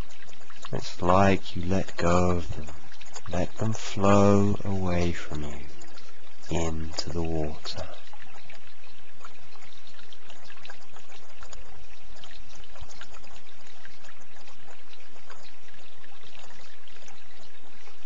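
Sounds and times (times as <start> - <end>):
water trickling: 0.0 - 18.0.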